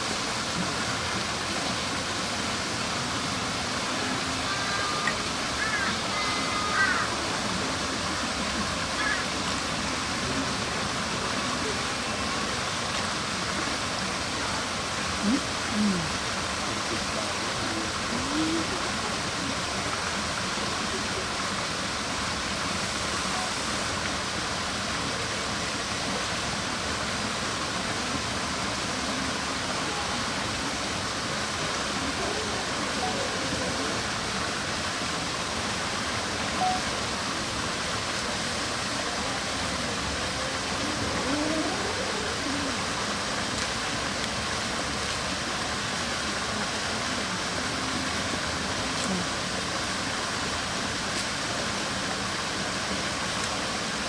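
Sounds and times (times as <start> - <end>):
faint murmured voices: 0.5 - 24.1, 27.4 - 52.1.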